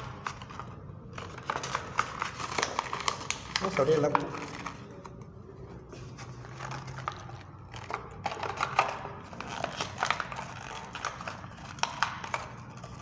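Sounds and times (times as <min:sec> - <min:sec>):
plastic blister pack crinkling: 0:00.0 - 0:05.3, 0:06.4 - 0:13.0.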